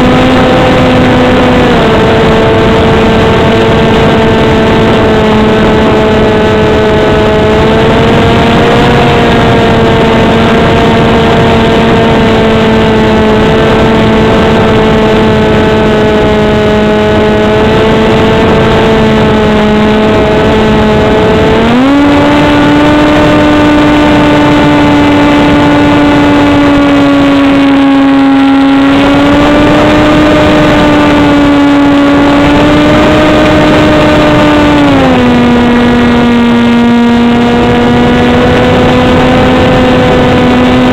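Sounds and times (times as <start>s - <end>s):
heavy wind rush: 0.0s - 40.9s
model plane motor and propeller: 0.0s - 40.9s.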